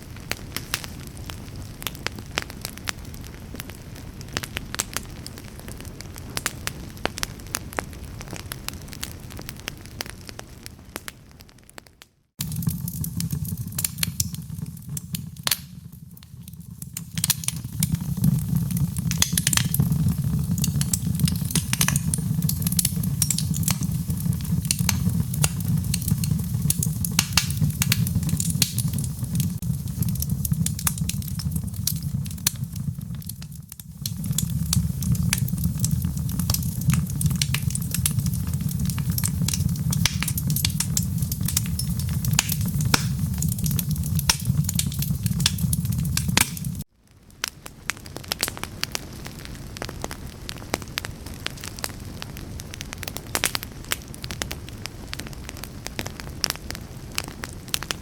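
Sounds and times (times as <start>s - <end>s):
fire crackling in a fireplace: 0.0s - 58.0s.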